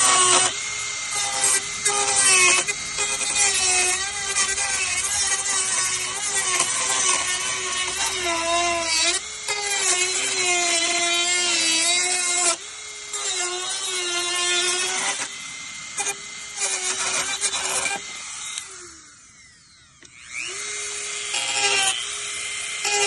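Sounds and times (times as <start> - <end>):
rotary tool whining on plastic: 0.0 - 23.0.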